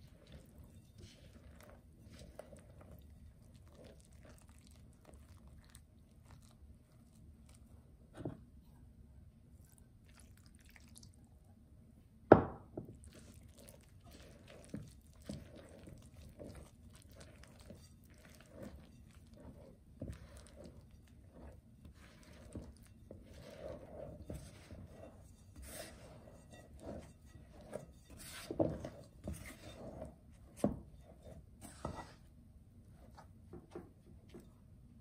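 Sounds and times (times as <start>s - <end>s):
spatula stirring wet dough: 0.0s - 8.6s, 9.6s - 11.3s, 12.8s - 33.4s.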